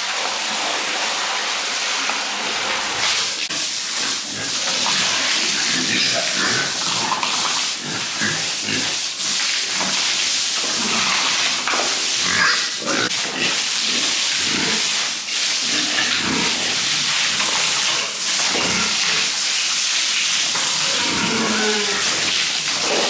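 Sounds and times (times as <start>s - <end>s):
water spraying from a hose: 0.0s - 23.0s
pigs grunting and squealing: 2.8s - 19.4s, 20.4s - 23.0s.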